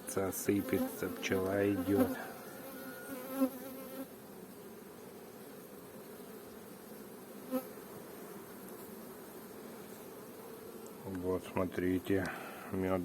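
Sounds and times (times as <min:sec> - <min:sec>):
loud bee buzzes: 0:00.0 - 0:12.6
honeybees humming: 0:00.0 - 0:13.0.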